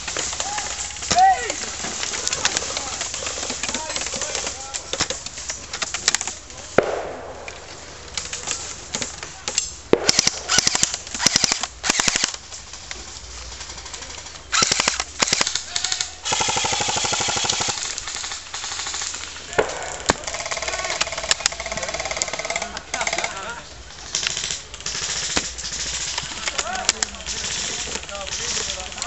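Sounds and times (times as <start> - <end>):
airsoft guns firing bursts: 0.0 - 8.5, 9.9 - 12.8, 13.5 - 29.0.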